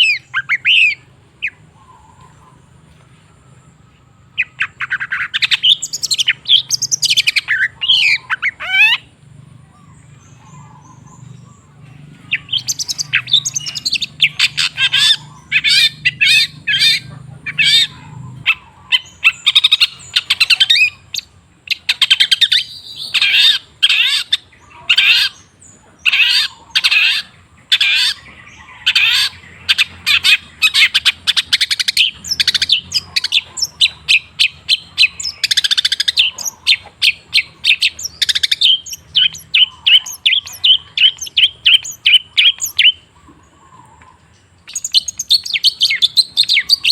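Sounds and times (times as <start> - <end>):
bird chirping and chattering: 0.0 - 2.9, 4.4 - 46.9.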